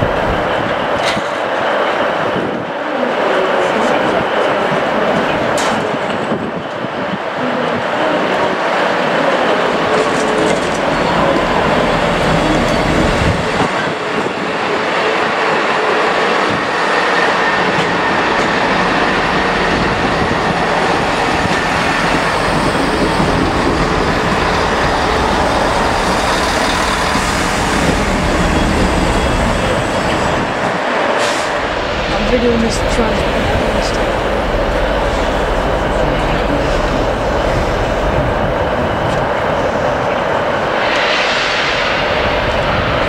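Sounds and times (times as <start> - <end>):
train rumbling: 0.0 - 43.0.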